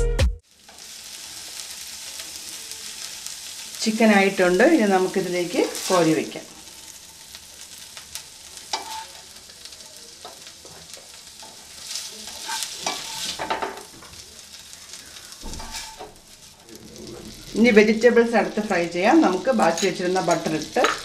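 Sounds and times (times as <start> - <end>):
light sizzle: 0.4 - 21.0.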